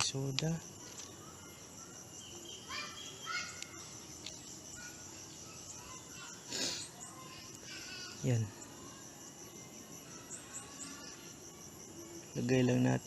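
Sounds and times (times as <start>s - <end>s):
faint bird calls: 0.0s - 11.6s.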